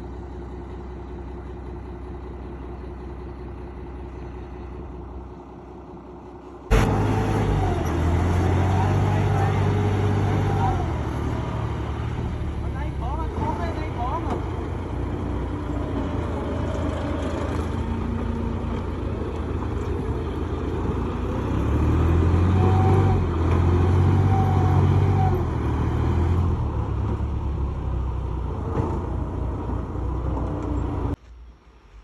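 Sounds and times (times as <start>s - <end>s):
truck engine running hard: 0.0s - 31.2s.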